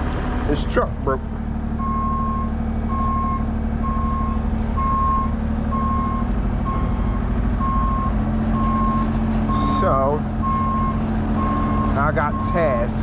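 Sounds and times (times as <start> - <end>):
diesel engine running: 0.0 - 13.0
backup alarm beeping: 1.8 - 12.8.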